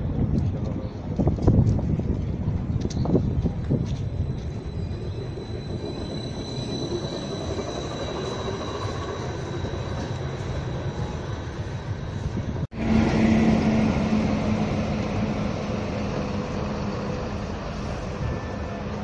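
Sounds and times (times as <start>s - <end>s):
street traffic: 0.0s - 19.0s
tram running past: 0.0s - 19.0s
tram motor whine: 2.8s - 19.0s.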